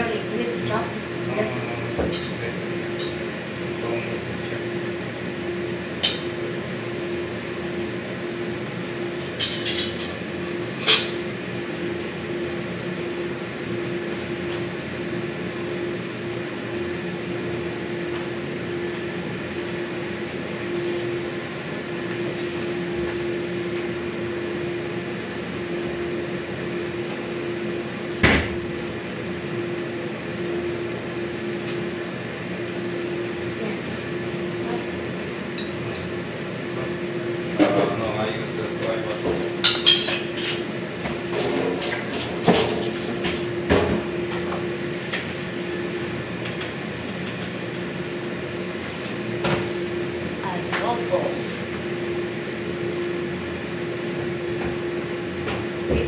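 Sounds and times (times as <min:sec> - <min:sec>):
constant hum: 0:00.0 - 0:56.0.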